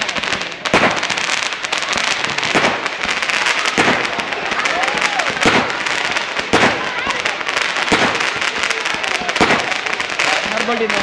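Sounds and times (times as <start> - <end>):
fireworks crackling pops: 0.0 - 11.0
fireworks loud bangs: 0.0 - 11.0.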